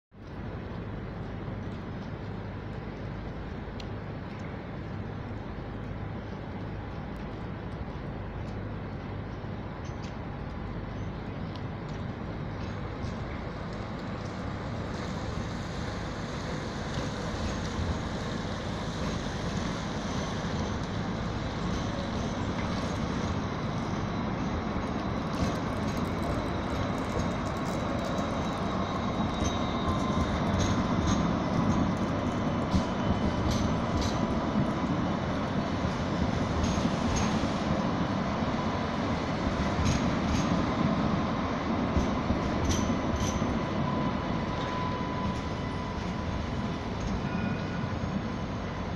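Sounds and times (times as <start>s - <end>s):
tram rumbling past: 0.2s - 48.9s.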